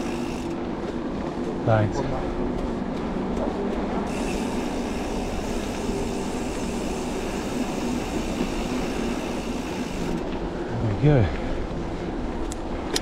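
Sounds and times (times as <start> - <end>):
bike tyres rolling over trail: 0.0 - 13.0.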